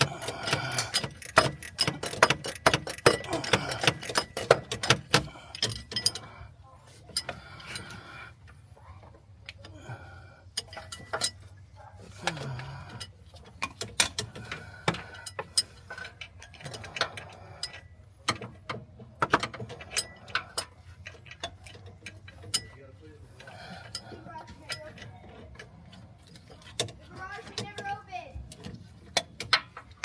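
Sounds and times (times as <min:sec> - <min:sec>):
hand tools clicking on metal: 0:00.0 - 0:08.6, 0:09.5 - 0:30.0.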